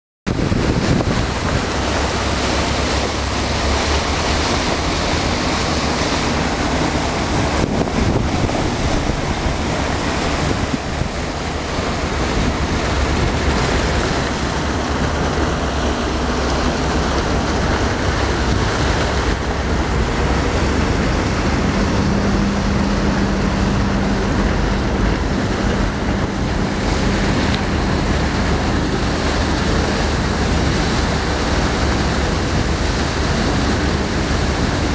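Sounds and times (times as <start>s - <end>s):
boat engines droning: 0.3s - 34.9s
waterjet wash churning: 0.3s - 34.9s
wind buffeting microphone: 0.3s - 34.9s.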